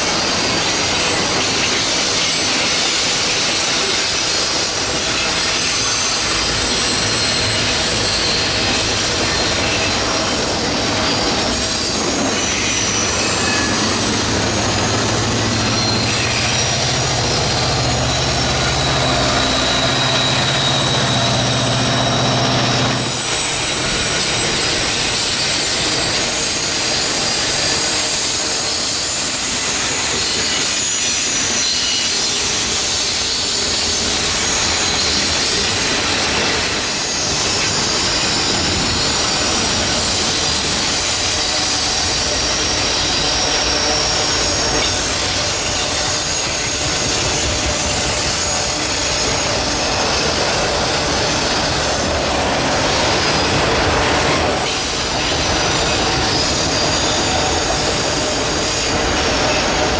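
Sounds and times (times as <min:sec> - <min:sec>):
locomotive engine drone: 0:00.0 - 0:59.9
train wheels rumbling on rails: 0:00.0 - 0:59.9
wheel squeal: 0:00.0 - 0:59.9.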